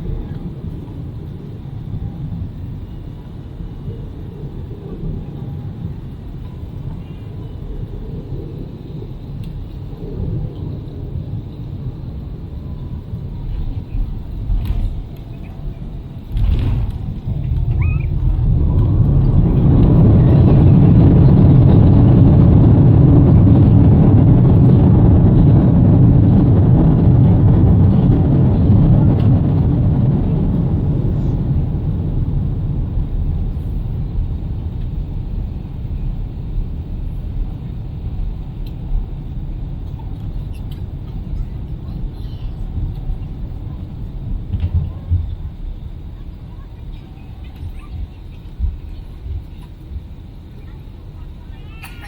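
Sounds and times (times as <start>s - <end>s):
jet engines reverse thrust rumble: 0.0s - 52.0s.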